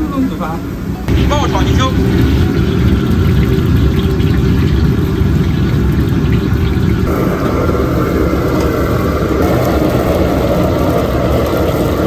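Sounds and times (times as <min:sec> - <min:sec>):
gas burner rumbling: 0:00.0 - 0:12.0
food frying in hot oil: 0:01.1 - 0:12.0.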